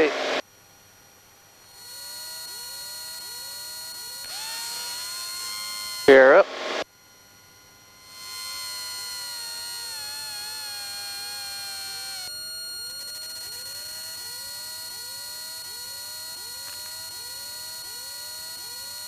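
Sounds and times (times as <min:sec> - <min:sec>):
hydraulic pump whine: 0:00.0 - 0:00.4, 0:01.7 - 0:19.0
steady electrical whine: 0:00.0 - 0:19.0
short rising chirp: 0:01.7 - 0:19.0.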